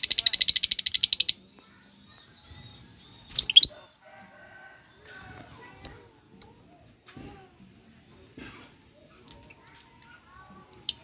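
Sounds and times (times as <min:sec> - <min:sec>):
lovebirds chirping: 0:00.0 - 0:07.0, 0:07.6 - 0:11.0.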